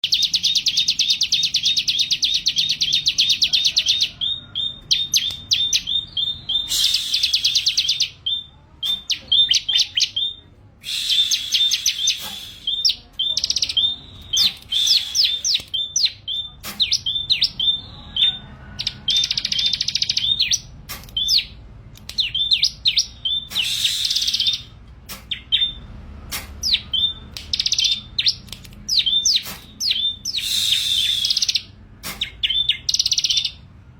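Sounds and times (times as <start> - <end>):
bird buzzy trills and chirps: 0.0 - 21.6, 22.2 - 25.9, 26.6 - 33.6.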